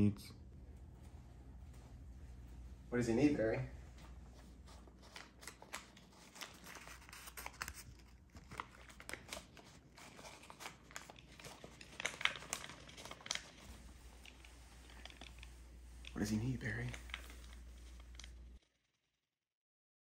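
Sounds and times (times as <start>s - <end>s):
faint crinkling and clicking: 0.4s - 3.0s, 3.6s - 18.6s.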